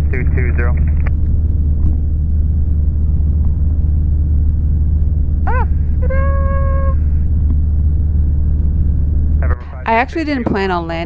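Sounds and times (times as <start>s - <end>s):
steady held tone: 0.0s - 10.8s
aircraft engine and propeller droning: 0.0s - 11.0s.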